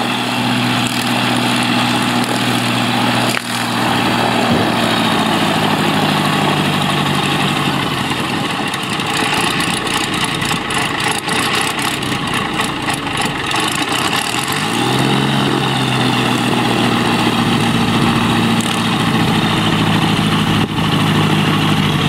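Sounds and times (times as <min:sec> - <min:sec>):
wind and water noise: 0:00.0 - 0:21.3
propeller engine running: 0:00.0 - 0:22.0.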